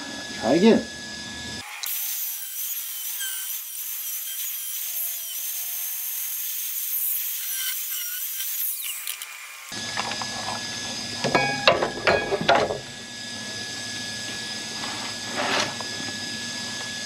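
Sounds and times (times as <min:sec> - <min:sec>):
grinder grinding metal: 0:00.1 - 0:17.0.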